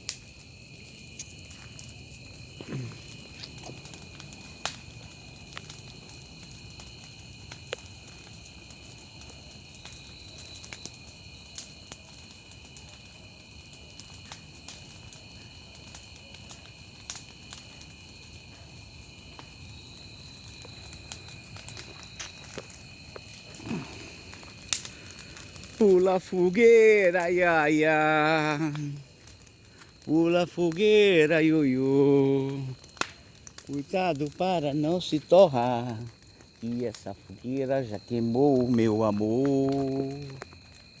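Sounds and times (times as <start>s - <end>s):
bonfire crackling and popping: 0.0s - 41.0s
insects trilling: 0.0s - 41.0s.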